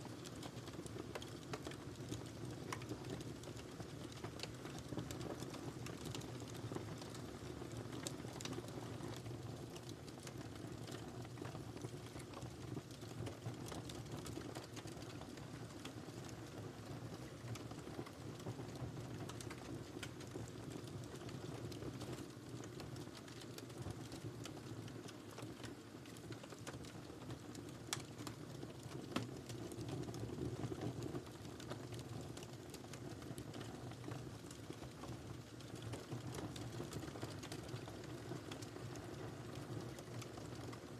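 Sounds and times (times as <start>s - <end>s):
wood fire crackling: 0.0s - 40.9s
fire pops and snaps: 0.2s - 40.8s.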